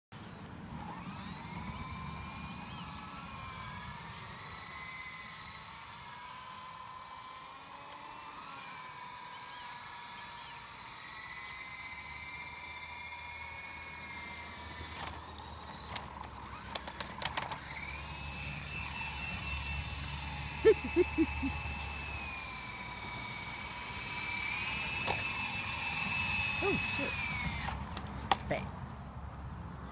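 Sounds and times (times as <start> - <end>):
toy helicopter motor whining: 0.6 - 28.1.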